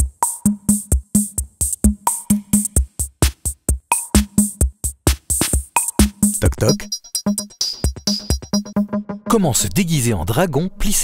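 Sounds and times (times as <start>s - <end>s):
electronic music with drum machine: 0.0s - 9.8s.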